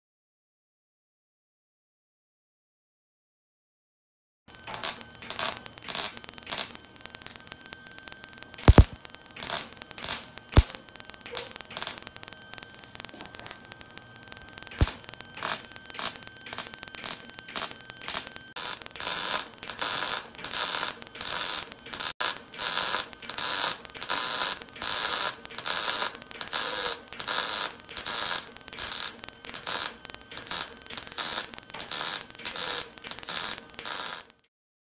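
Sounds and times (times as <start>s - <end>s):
sharp clicks: 4.5s - 34.4s
welder arc crackling: 4.5s - 34.4s.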